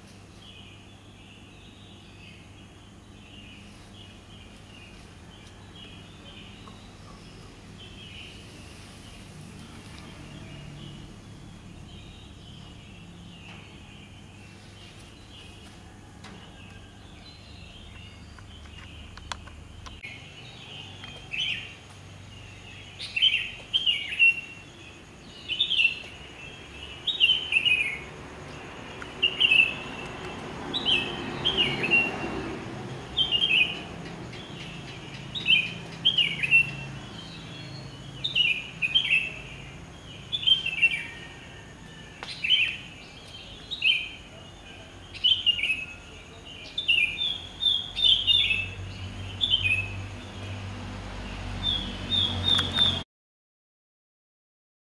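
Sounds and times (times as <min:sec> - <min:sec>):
bird singing: 0:00.0 - 0:53.0.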